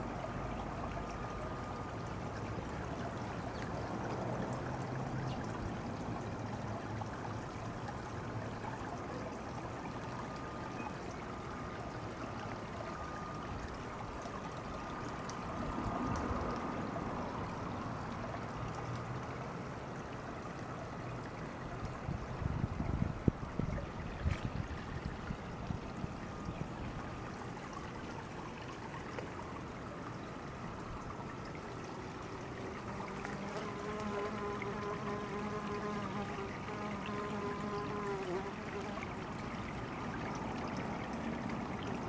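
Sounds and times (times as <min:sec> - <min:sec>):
outdoor background hiss: 0:00.0 - 0:42.0.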